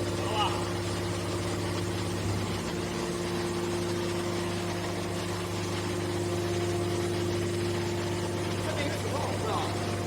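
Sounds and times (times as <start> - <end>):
electric motor and pump humming: 0.0 - 10.0.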